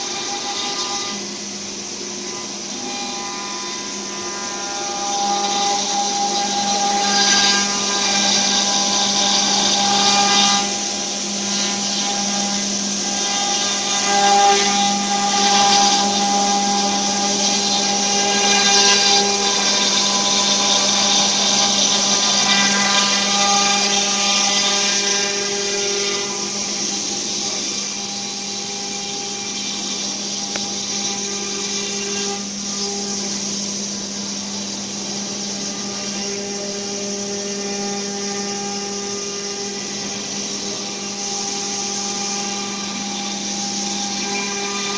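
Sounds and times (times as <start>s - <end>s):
router spindle whine cutting wood: 0.0s - 44.9s.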